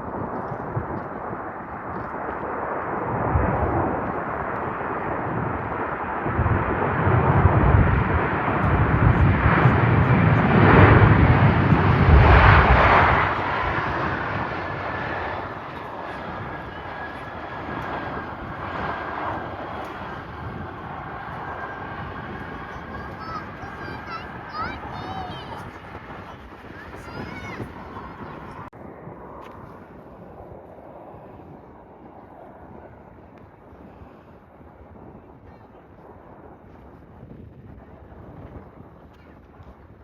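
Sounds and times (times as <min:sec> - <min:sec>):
jet airliner roar: 0:00.0 - 0:37.1
wind buffeting microphone: 0:00.0 - 0:40.0.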